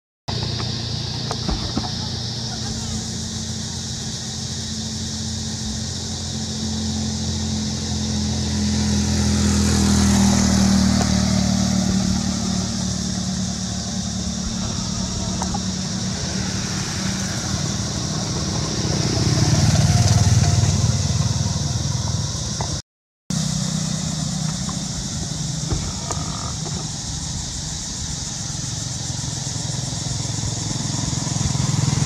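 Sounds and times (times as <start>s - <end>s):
vehicles passing on road: 0.3s - 32.0s.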